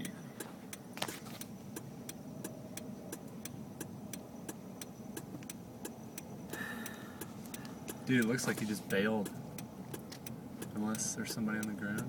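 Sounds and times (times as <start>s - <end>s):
road rumble inside car: 0.0s - 12.0s
sharp ticking: 0.0s - 12.0s.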